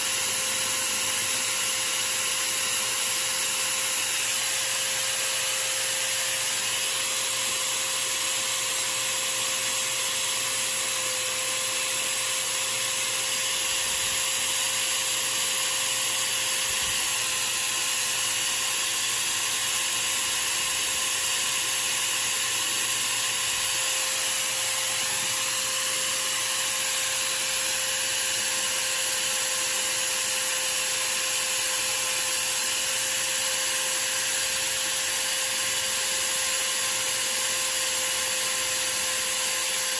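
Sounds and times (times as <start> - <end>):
small power tool motor whining: 0.0 - 39.9.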